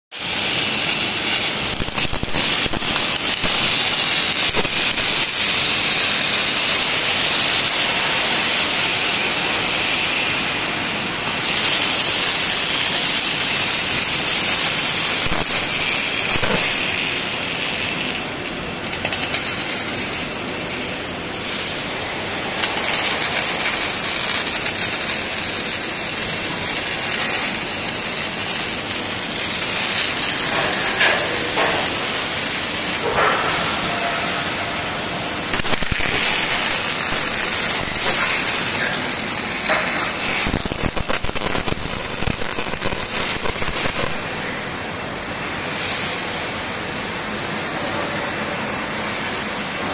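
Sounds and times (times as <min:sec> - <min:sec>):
arc welding crackling and hissing: 0:00.1 - 0:49.9.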